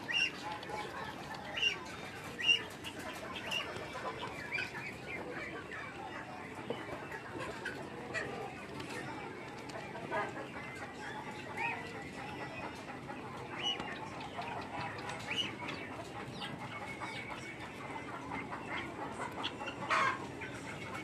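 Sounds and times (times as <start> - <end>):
poultry clucking: 0.0 - 21.0.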